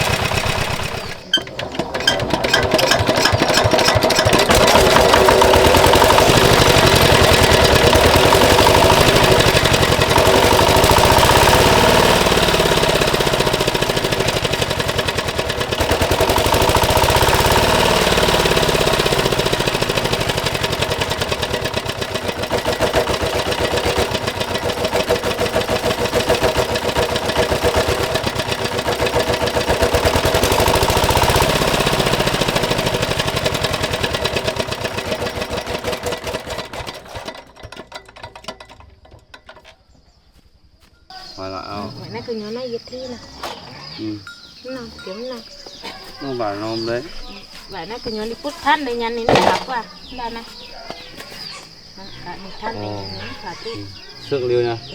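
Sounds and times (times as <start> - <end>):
small diesel engine running: 0.0 - 39.6, 45.6 - 50.6, 51.8 - 54.9.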